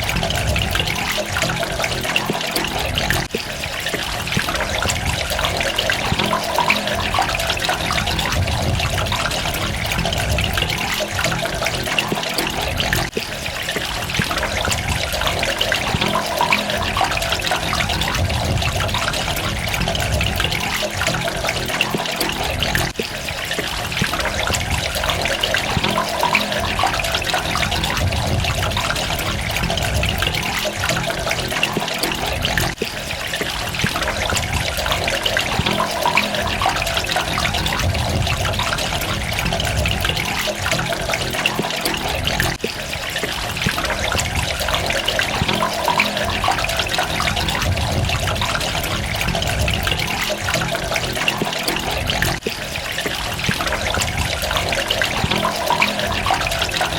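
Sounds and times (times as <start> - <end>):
running trickling water: 0.0 - 56.9.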